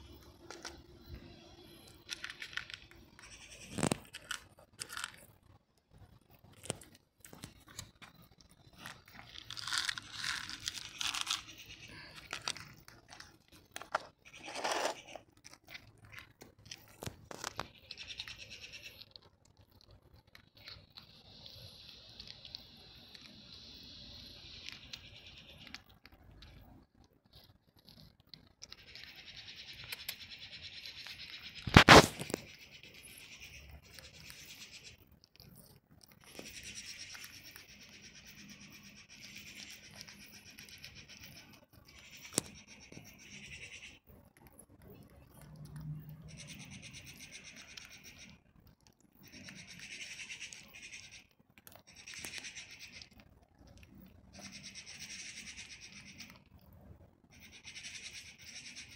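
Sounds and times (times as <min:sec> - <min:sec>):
cat crunching dry kibble: 0:00.0 - 0:43.5, 0:44.4 - 0:56.8.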